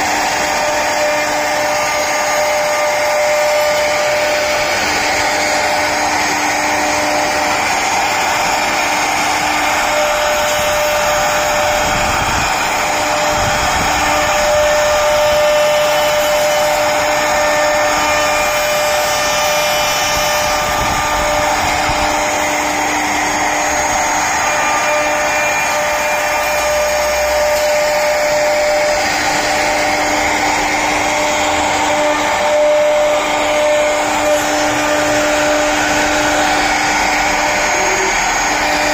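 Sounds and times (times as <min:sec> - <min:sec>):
router spindle whining: 0:00.0 - 0:38.9
wood cutting hiss: 0:00.0 - 0:38.9.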